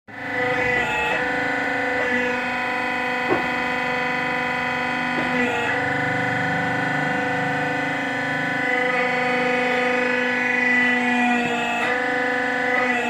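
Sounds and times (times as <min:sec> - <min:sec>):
hydraulic power unit whining hum: 0:00.1 - 0:13.0.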